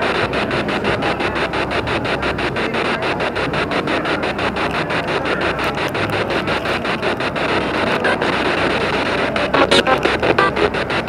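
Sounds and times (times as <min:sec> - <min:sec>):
chopped radio static hiss: 0:00.0 - 0:11.0.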